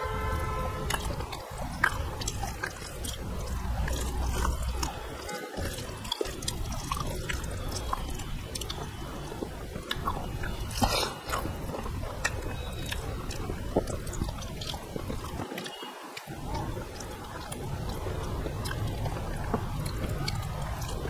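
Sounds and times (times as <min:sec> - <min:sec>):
steady low rumble: 0:00.0 - 0:15.5, 0:16.3 - 0:21.0.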